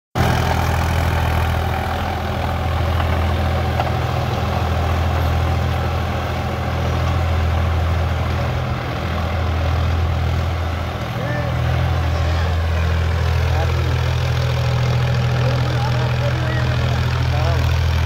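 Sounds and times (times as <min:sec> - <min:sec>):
tractor diesel engine under load: 0:00.1 - 0:18.0.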